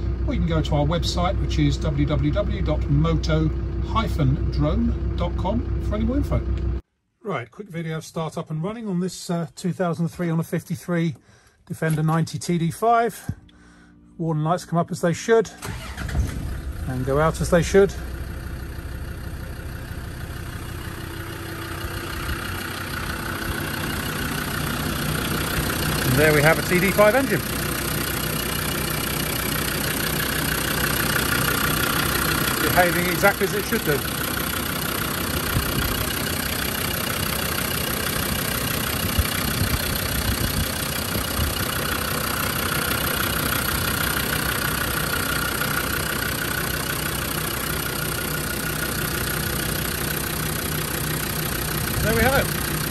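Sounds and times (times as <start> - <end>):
diesel engine idling: 0.0 - 6.8, 15.4 - 52.9.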